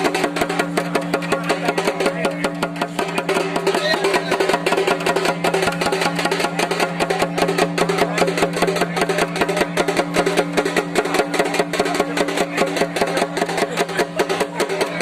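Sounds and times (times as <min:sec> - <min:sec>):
fast dense drumming: 0:00.0 - 0:15.0.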